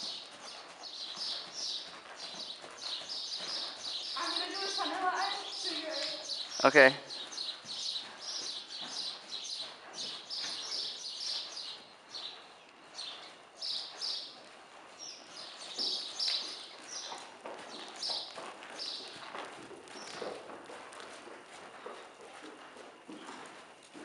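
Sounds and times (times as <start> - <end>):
small birds chirping: 0.0 - 20.4
horse hooves walking on sand: 0.0 - 24.0.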